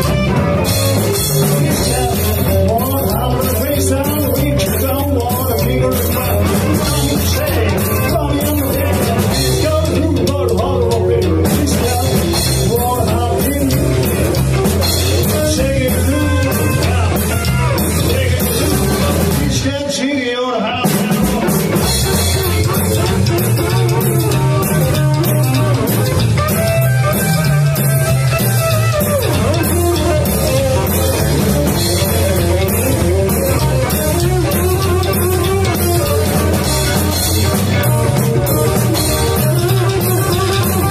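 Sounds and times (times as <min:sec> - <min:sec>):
drum kit with snare and cymbals: 0:00.0 - 0:40.9
electric guitar: 0:00.0 - 0:40.9
rockabilly band playing: 0:00.0 - 0:40.9
upright bass: 0:00.0 - 0:40.9.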